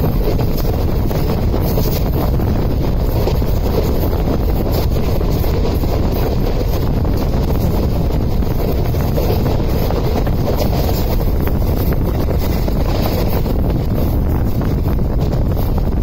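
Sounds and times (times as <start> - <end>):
train wheels rumbling on track: 0.0 - 16.0
wind across microphone: 0.0 - 16.0.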